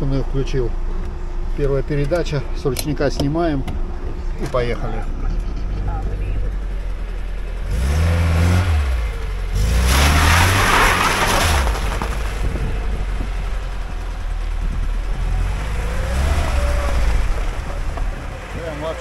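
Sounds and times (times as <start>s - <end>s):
car engine revving: 3.3s - 19.0s.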